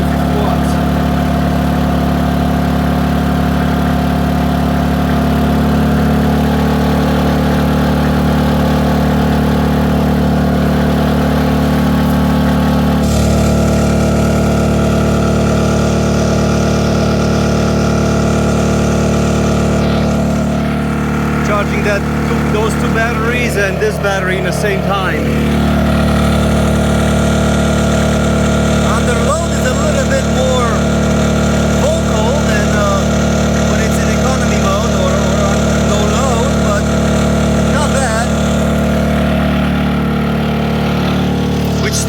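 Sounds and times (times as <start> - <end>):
generator running under load: 0.0 - 42.0.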